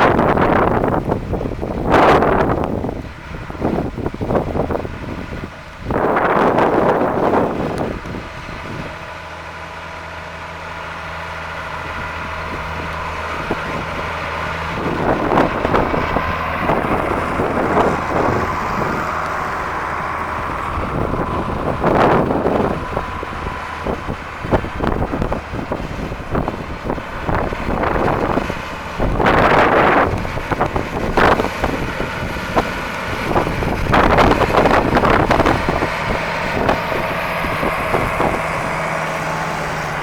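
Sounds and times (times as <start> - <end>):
wind buffeting microphone: 0.0 - 9.8, 10.4 - 40.0
tractor engine running: 0.0 - 40.0.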